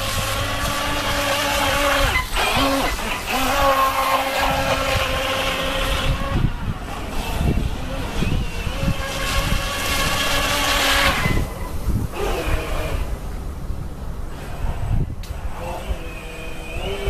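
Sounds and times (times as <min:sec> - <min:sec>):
electric motor whining: 0:00.0 - 0:13.4, 0:14.3 - 0:17.0
wind rumbling on microphone: 0:00.0 - 0:17.0.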